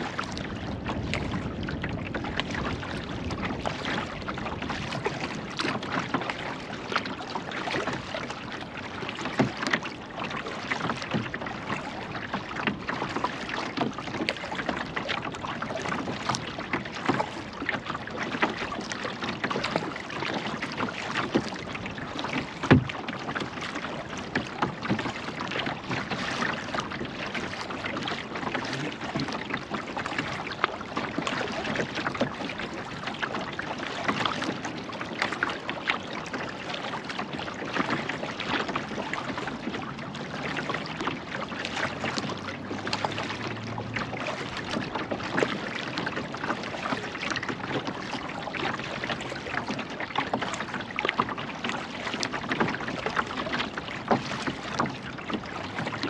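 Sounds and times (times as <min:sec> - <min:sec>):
kayak paddle splashing water: 0:00.0 - 0:56.0.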